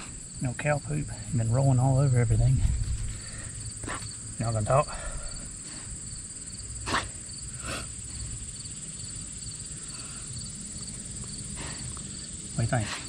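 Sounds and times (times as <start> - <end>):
insects chirping in grass: 0.0 - 13.0.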